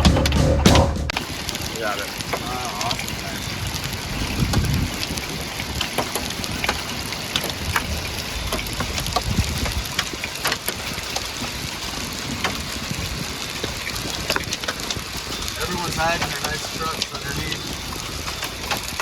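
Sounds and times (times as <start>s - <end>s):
rain on a vehicle: 1.2s - 19.0s.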